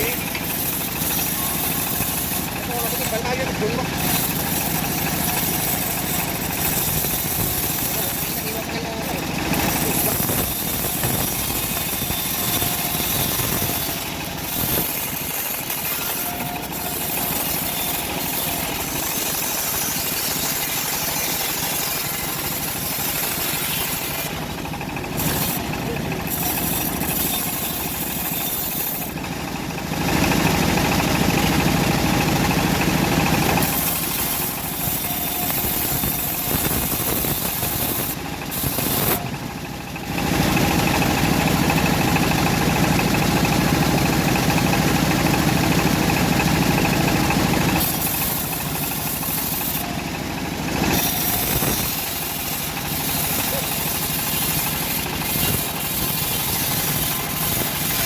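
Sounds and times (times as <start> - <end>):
bandsaw mill sawing log: 0.0 - 58.0.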